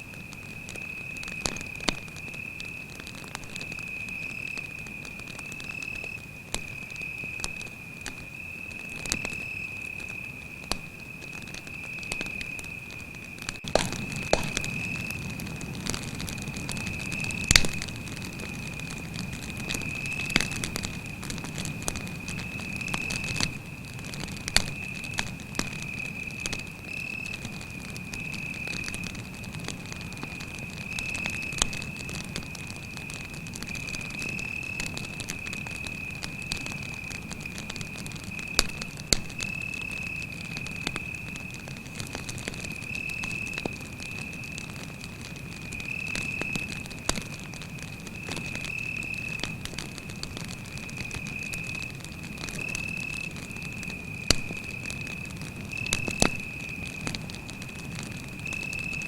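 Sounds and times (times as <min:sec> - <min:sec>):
campfire crackling and popping: 0:00.0 - 0:59.0
cricket trilling: 0:00.0 - 0:59.0
low flame rumble: 0:09.8 - 0:59.0.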